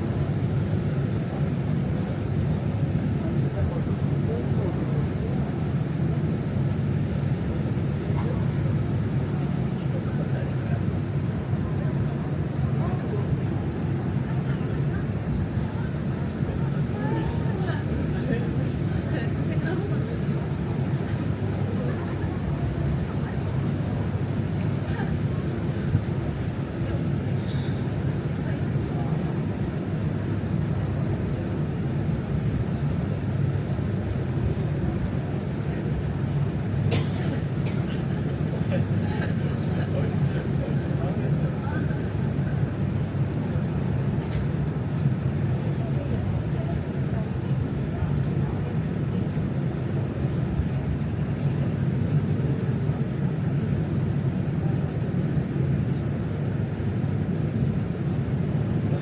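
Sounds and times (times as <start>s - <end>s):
boat engine rumble: 0.0s - 59.0s.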